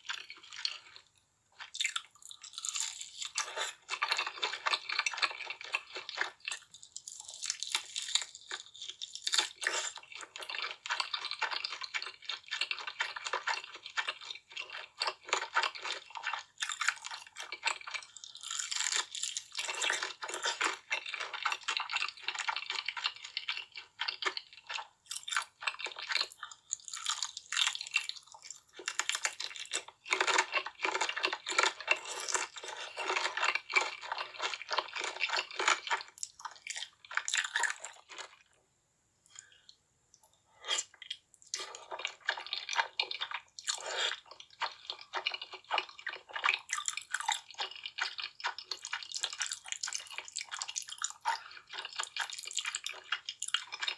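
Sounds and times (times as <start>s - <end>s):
chewing crunchy food: 0.0s - 38.6s, 39.2s - 53.9s.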